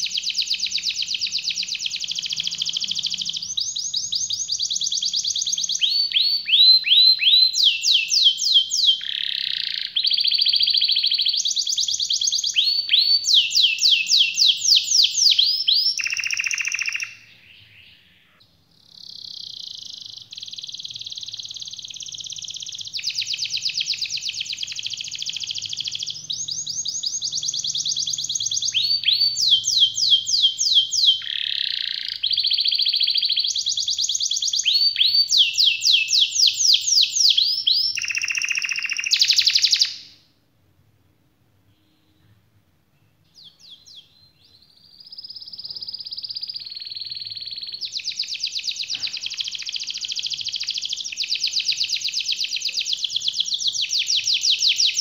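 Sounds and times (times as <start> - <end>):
canary singing rapid trills: 0.0 - 40.2, 44.8 - 55.0.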